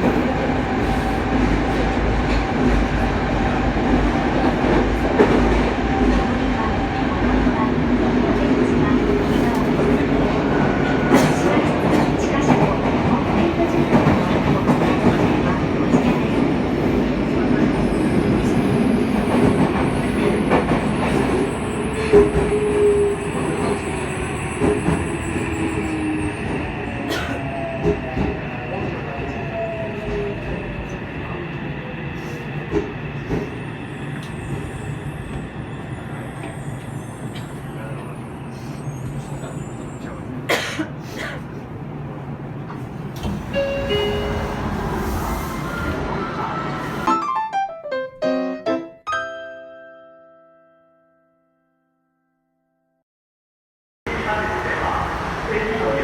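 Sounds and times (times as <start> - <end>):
train wheels rumbling on rails: 0.0 - 47.1.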